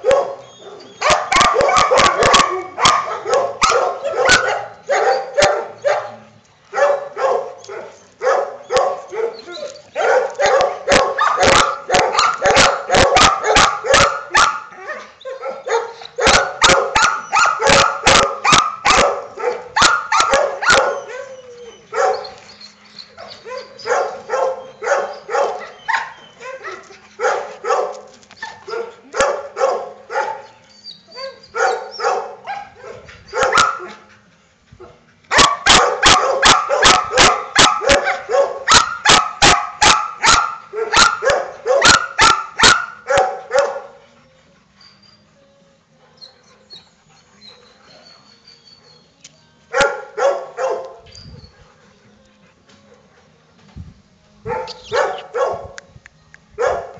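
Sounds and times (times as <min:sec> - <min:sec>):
dogs barking: 0:00.0 - 0:34.2, 0:34.8 - 0:44.0, 0:49.7 - 0:51.1, 0:54.4 - 0:55.8, 0:56.6 - 0:56.9.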